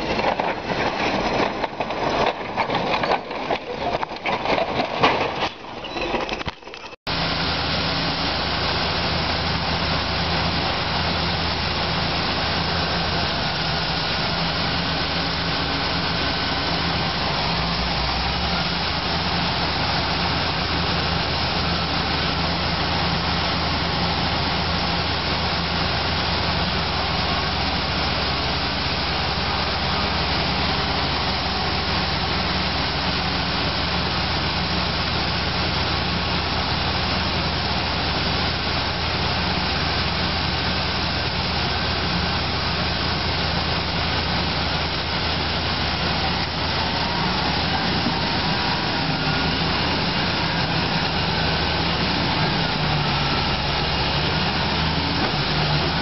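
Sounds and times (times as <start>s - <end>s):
bulldozer engines droning: 0.0s - 56.0s.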